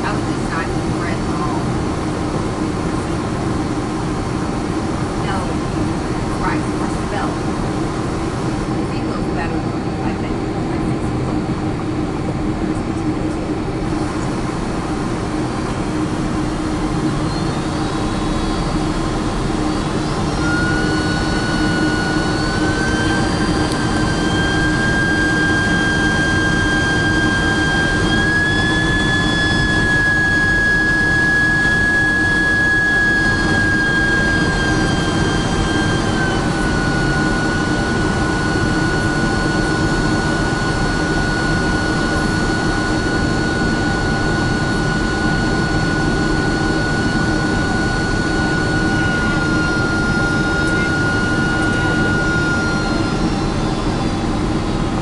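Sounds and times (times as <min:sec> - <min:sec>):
jet engines rushing with whine: 0:00.0 - 0:55.0.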